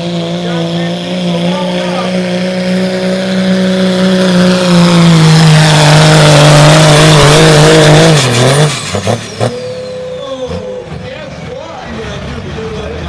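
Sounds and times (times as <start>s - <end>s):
diesel engine at high revs: 0.0s - 13.0s.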